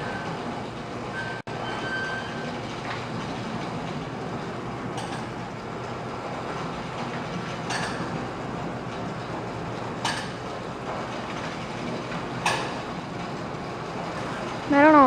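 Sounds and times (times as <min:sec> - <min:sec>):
garage door opener rumbling: 0:00.0 - 0:15.0.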